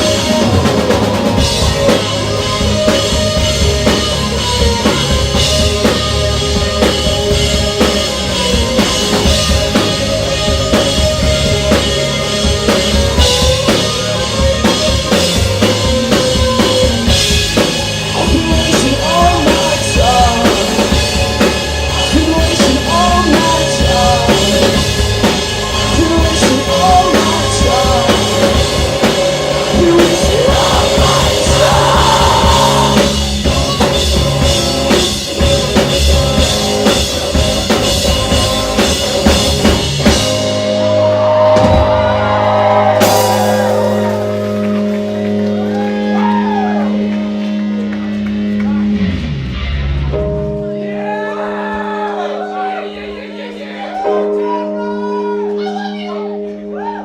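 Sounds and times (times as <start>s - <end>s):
drum kit: 0.0s - 52.2s
bass guitar: 0.0s - 57.0s
distorted electric guitars: 0.0s - 57.0s.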